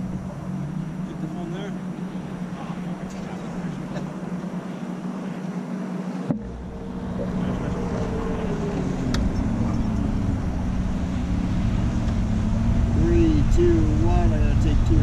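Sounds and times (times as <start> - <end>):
low rumble: 0.0 - 5.6, 6.2 - 15.0
boat motor idling: 0.0 - 15.0.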